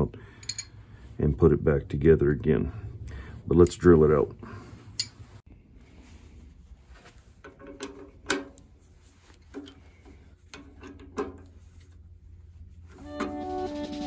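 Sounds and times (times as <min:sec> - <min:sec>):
low steady hum: 0:00.0 - 0:13.5.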